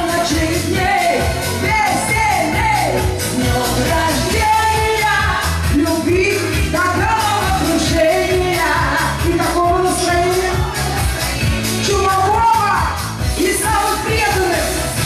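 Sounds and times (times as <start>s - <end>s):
dance beat backing track: 0.0s - 15.0s
woman singing pop song: 0.0s - 15.0s.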